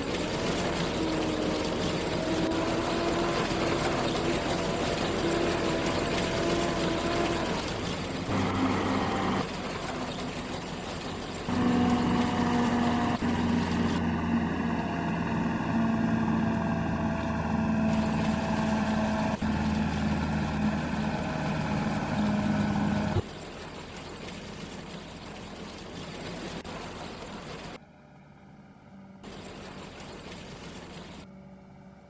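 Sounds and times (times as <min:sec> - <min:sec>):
combine harvester engine running: 0:00.0 - 0:32.0.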